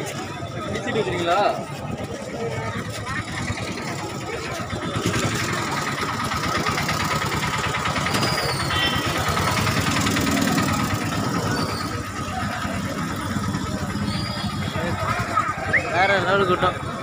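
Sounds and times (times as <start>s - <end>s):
motorcycle engines idling: 0.0s - 17.0s
street crowd noise: 0.0s - 17.0s.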